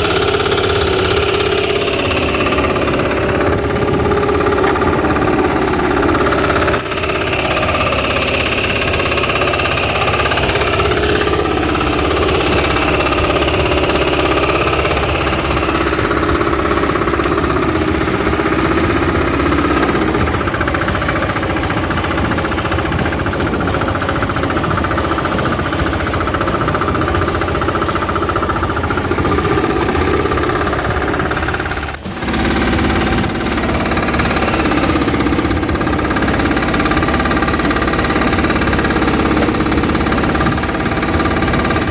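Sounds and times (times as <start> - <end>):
farm machine engine pulsing: 0.0 - 41.9.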